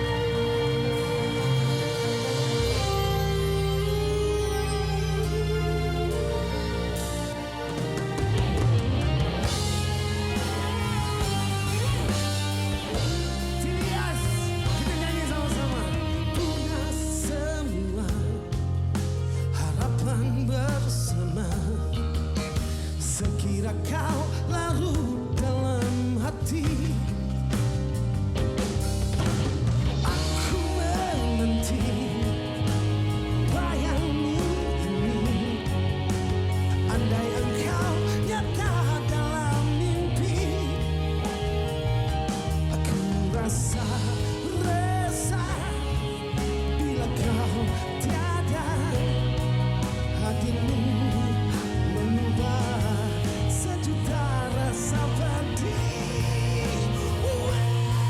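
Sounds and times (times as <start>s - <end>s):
band playing pop song with singer: 0.0s - 58.0s.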